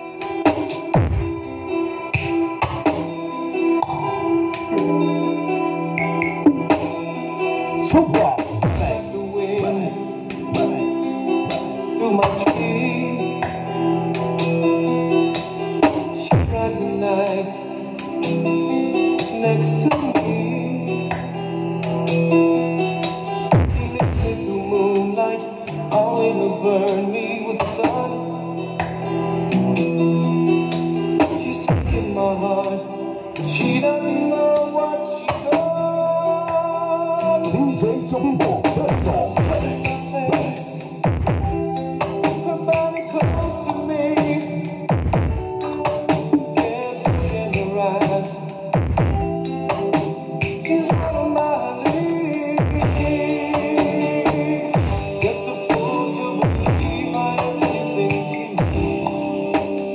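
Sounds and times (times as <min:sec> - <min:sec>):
loud music through speakers: 0:00.0 - 0:59.9.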